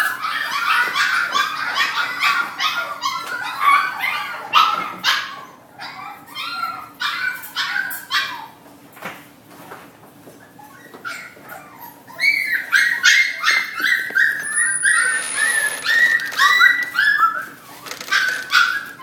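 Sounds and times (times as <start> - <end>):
puppies yipping and barking: 0.0 - 8.6, 10.3 - 19.0.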